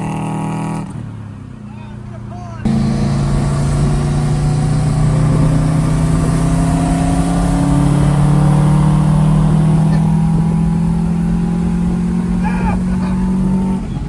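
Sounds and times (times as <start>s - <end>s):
car engine accelerating: 2.6s - 14.0s.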